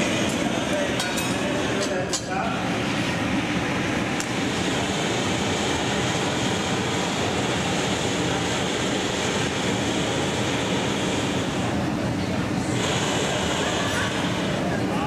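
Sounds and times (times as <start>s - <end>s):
gas torches rushing: 0.0s - 15.0s.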